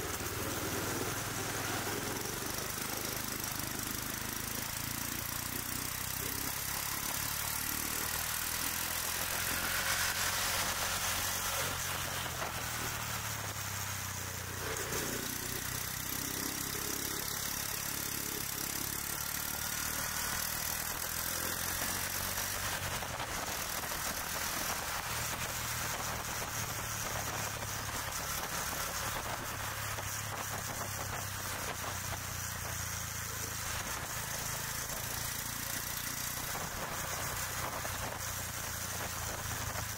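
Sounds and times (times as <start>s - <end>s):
road noise hiss: 0.0s - 39.9s
scooter engines humming: 0.0s - 39.9s.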